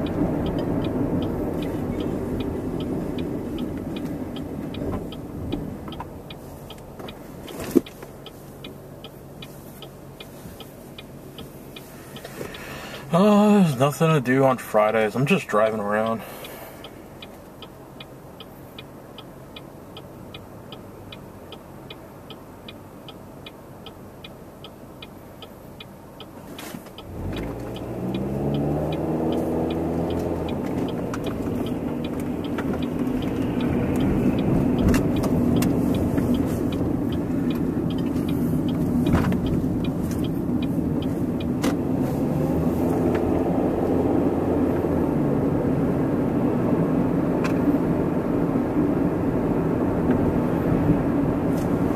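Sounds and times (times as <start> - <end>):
car engine: 0.0 - 51.9
road noise: 0.0 - 51.9
turn signal relay ticking: 0.0 - 51.9.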